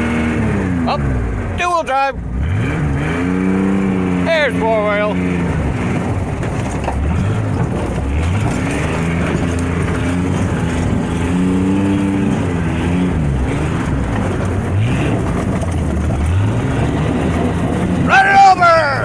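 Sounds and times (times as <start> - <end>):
truck engine revving under load: 0.0 - 19.0.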